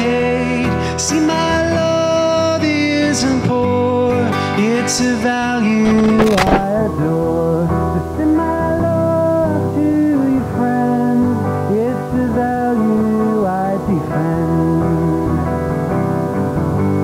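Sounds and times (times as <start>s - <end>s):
acoustic guitar accompaniment: 0.0s - 17.0s.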